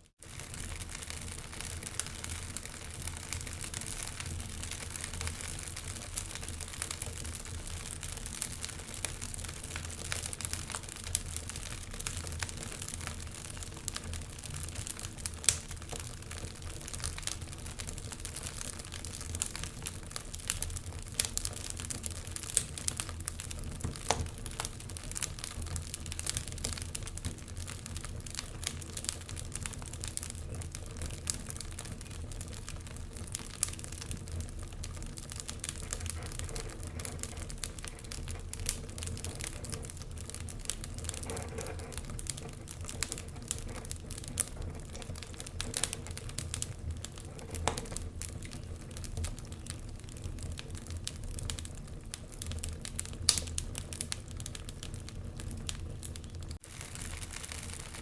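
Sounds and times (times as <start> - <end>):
low fire rumble: 0.0 - 58.0
wood fire crackling: 0.0 - 58.0.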